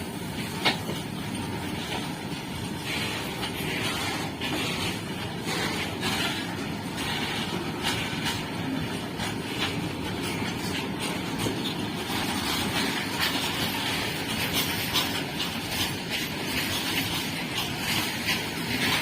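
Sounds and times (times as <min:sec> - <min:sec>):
wheels clacking over rail joints: 0:00.0 - 0:19.0
wheels rumbling on rail: 0:00.0 - 0:19.0.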